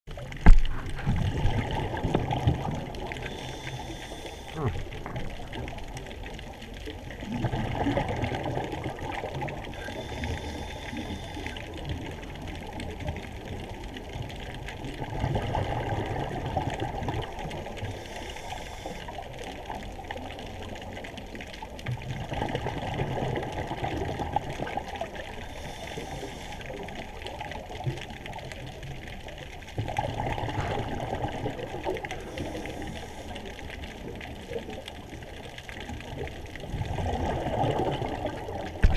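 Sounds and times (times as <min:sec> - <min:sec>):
muffled underwater water wash: 0:00.1 - 0:38.9.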